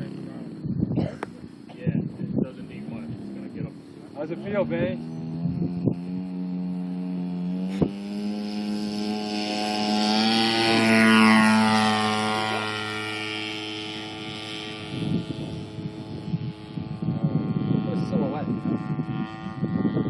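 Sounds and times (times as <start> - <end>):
model plane engine flying past: 0.0 - 0.7, 1.4 - 20.0.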